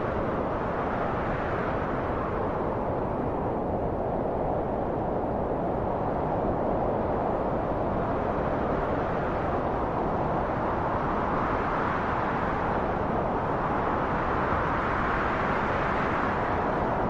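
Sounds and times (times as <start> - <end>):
rushing wind: 0.0 - 17.0.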